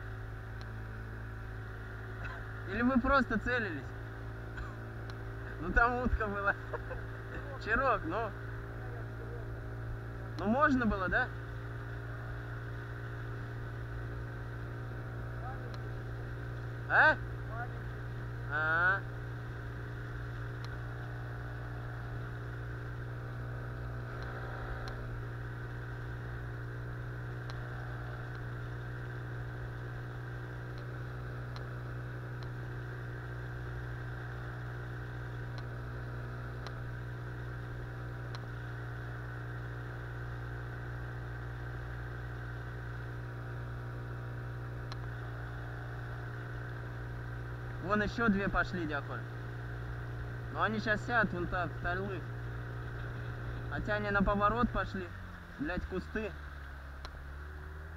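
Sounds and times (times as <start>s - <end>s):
outboard motor running: 0.0s - 57.9s.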